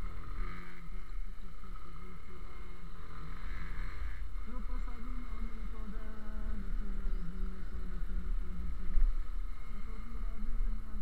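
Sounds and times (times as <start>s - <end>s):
motorcycle engine running: 0.0s - 11.0s
wind and road rumble: 0.0s - 11.0s.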